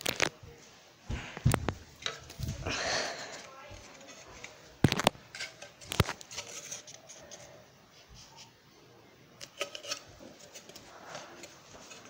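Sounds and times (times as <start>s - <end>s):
soft handling rustling: 0.0s - 12.0s.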